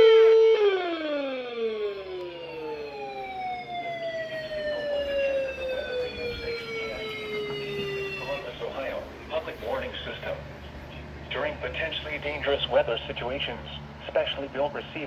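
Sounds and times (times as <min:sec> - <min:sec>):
warning siren winding down: 0:00.0 - 0:14.1.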